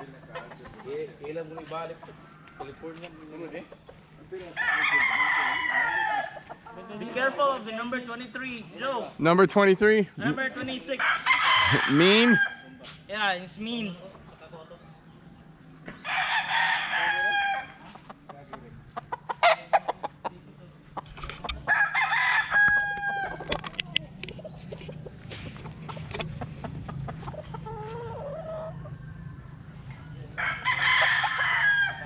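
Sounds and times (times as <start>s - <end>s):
roosters crowing: 0.0s - 8.7s, 10.6s - 12.9s, 15.0s - 20.3s, 21.2s - 23.7s, 24.4s - 32.0s.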